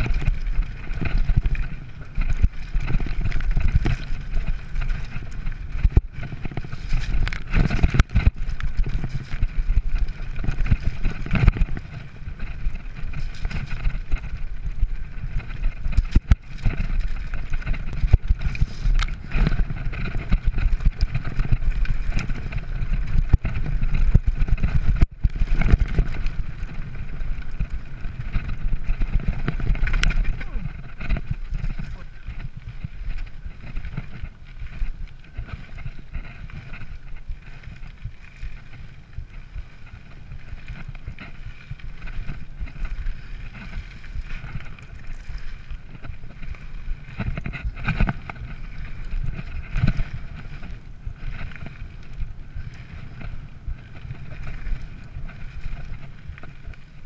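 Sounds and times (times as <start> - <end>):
tyres on loose stones: 0.0 - 50.8
bike clattering over bumps: 0.0 - 57.0
wind rumble on microphone: 0.0 - 57.0.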